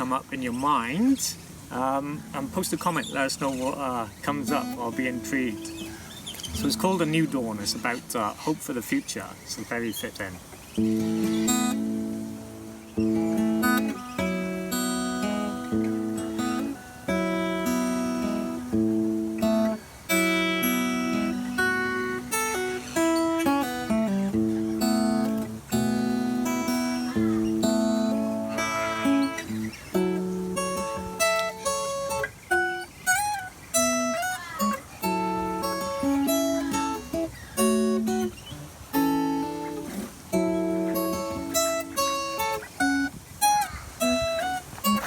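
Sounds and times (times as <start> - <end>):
acoustic guitar chords: 0.0 - 45.0.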